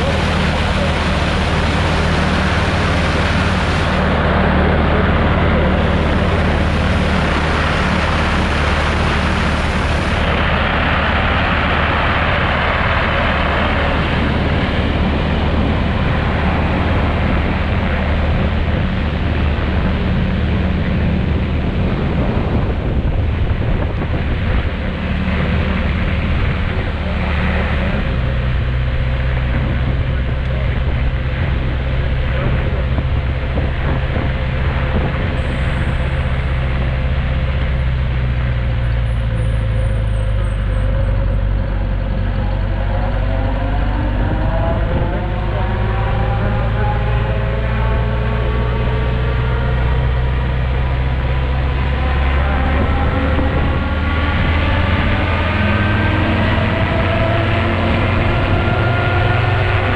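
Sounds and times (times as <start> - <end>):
propeller engine running: 0.0 - 59.9
wind noise on microphone: 0.0 - 59.9.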